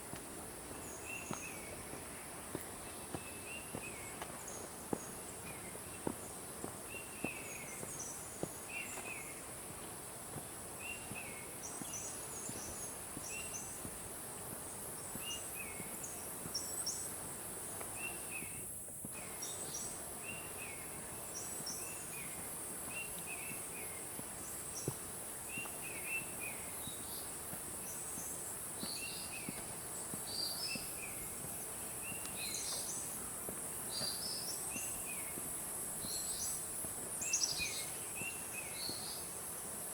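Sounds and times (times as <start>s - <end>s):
birds chirping: 0.0s - 39.5s
faint footsteps: 0.0s - 39.9s.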